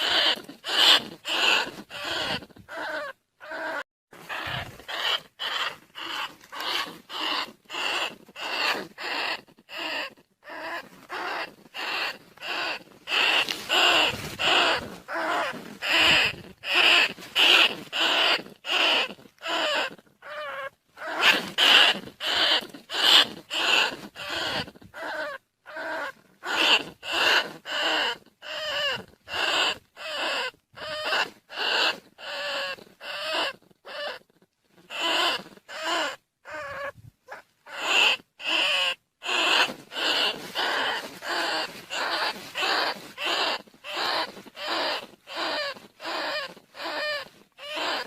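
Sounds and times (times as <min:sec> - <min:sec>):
pitch-bending rat squeaks: 0:00.0 - 0:34.3, 0:34.9 - 0:48.0.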